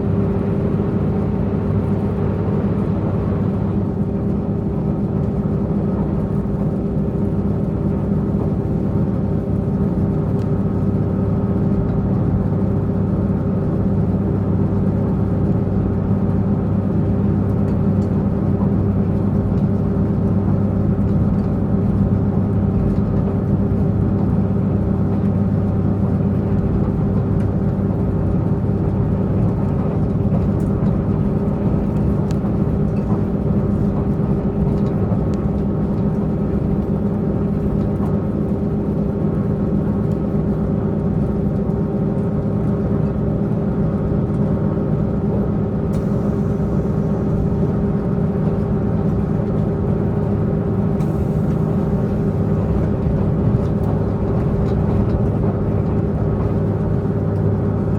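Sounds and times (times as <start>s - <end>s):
train diesel engine drone: 0.0s - 57.9s
train running rumble: 0.0s - 57.9s.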